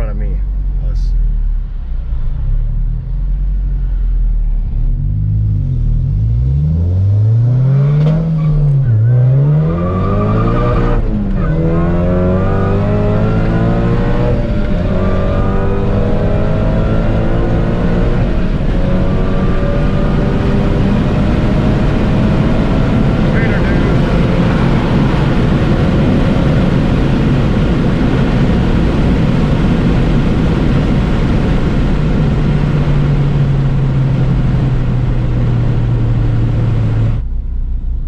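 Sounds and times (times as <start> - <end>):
car engine accelerating: 0.0 - 38.0.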